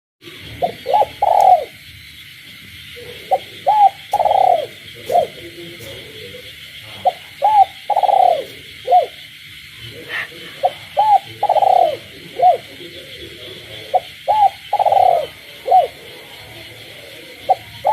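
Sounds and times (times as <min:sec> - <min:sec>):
dove cooing: 0:00.2 - 0:01.9, 0:02.7 - 0:17.9
frogs chorus: 0:00.2 - 0:17.9.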